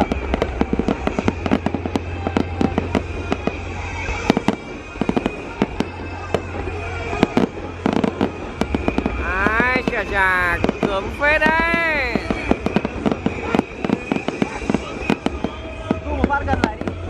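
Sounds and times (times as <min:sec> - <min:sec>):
firework bangs: 0:00.0 - 0:17.0
fireworks popping and crackling: 0:00.0 - 0:17.0.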